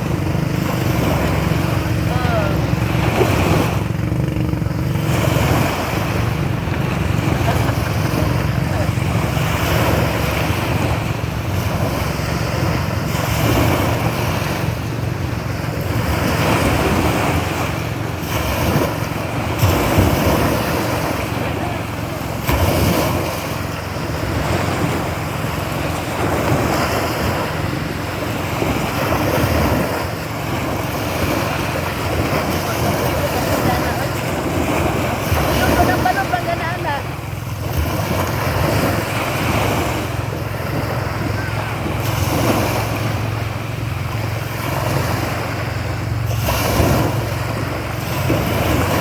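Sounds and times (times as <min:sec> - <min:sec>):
small boat engine running: 0:00.0 - 0:49.0
water rushing past hull: 0:00.0 - 0:49.0.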